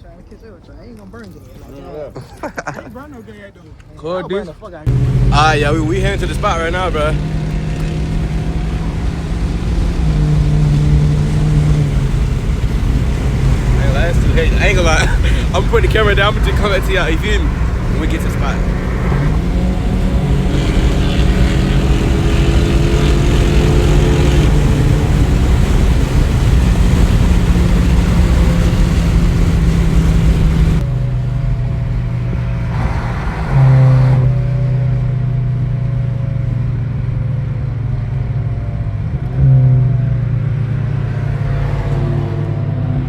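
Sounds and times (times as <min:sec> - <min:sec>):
road and wind noise: 0:00.0 - 0:43.0
car engine: 0:03.7 - 0:43.0.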